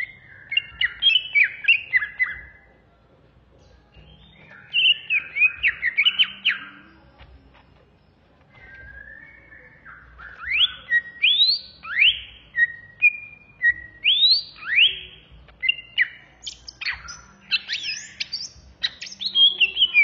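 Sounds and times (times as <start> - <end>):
bird singing: 0.0 - 2.8, 3.5 - 20.0.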